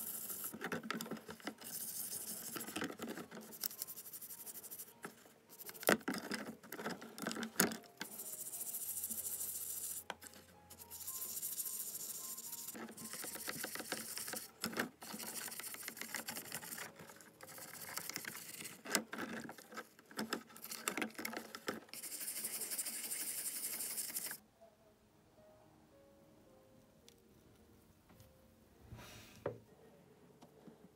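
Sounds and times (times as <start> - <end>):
faint background music: 0.0 - 30.9.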